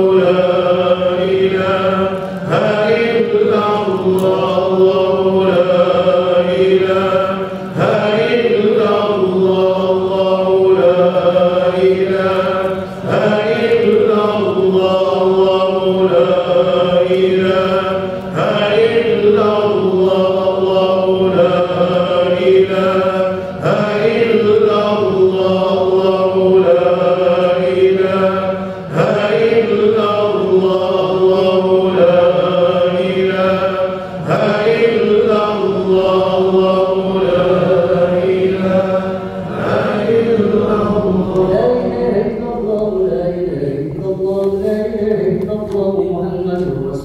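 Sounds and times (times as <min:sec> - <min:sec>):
group chanting melodically: 0:00.0 - 0:45.6.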